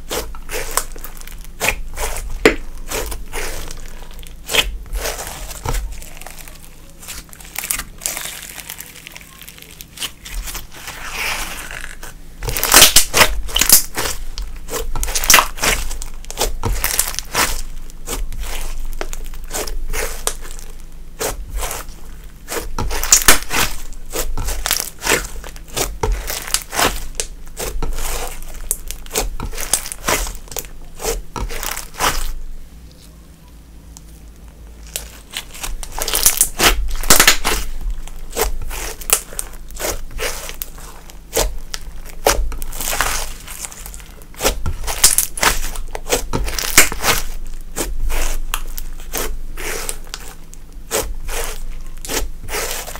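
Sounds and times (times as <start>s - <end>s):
slime squished by hand: 0.0s - 33.2s, 34.0s - 52.9s.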